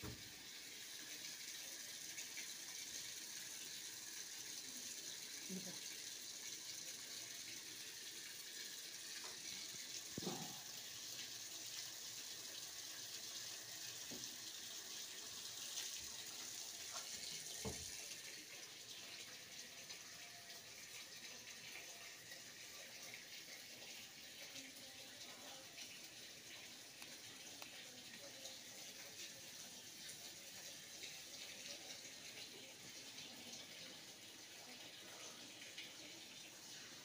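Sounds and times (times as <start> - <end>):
water running from a tap: 0.0 - 37.0.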